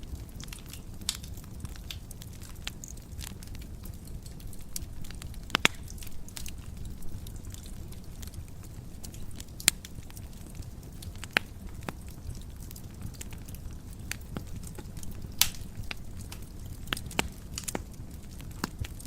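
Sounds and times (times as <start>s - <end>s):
fire pops and snaps: 0.0s - 19.0s
wood fire rumbling: 0.0s - 19.0s.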